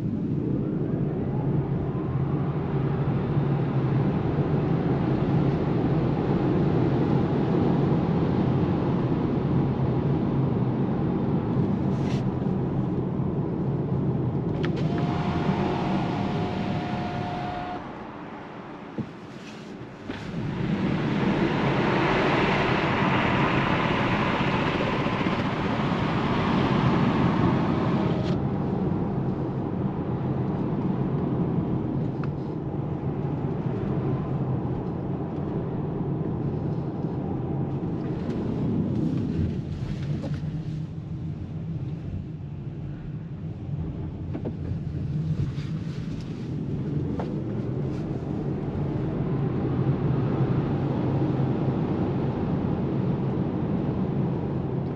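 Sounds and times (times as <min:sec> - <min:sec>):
road and tyre noise: 0:00.0 - 0:54.9
wind noise: 0:00.0 - 0:54.9.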